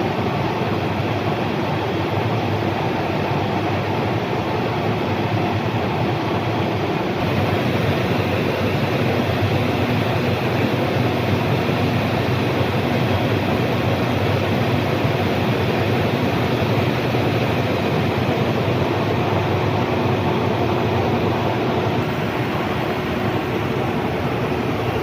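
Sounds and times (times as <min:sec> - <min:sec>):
lathe machine hum: 0:00.1 - 0:25.0.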